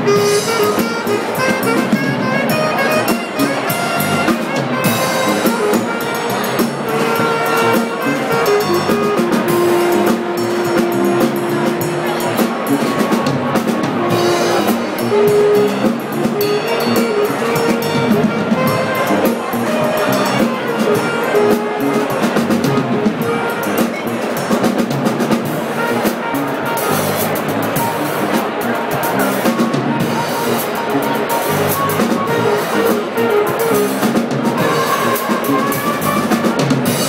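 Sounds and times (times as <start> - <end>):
saxophone melody: 0.0 - 24.8, 25.4 - 37.0
electric bass guitar: 0.0 - 34.9
drum kit with cymbals: 0.0 - 37.0.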